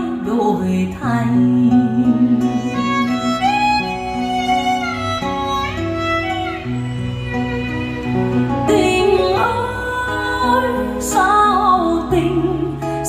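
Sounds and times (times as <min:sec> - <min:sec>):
guitar and bass: 0:00.0 - 0:13.0
violin melody with sliding notes: 0:01.2 - 0:13.0.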